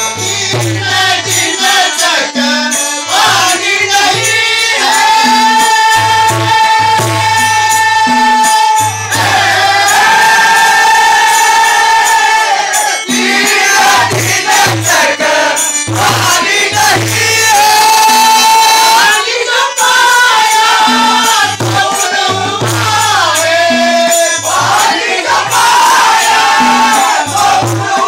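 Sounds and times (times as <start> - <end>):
harmonium reed tone: 0.0 - 28.0
men singing devotional song: 0.0 - 28.0.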